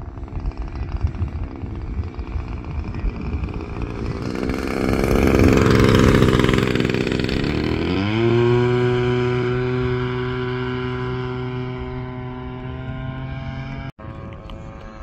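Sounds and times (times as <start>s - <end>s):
model plane engine running: 0.0s - 15.0s
wind buffeting microphone: 0.0s - 15.0s.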